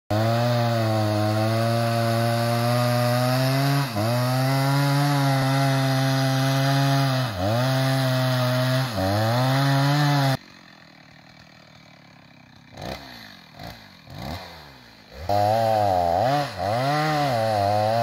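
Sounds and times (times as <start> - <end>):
chainsaw cutting wood: 0.1 - 18.0.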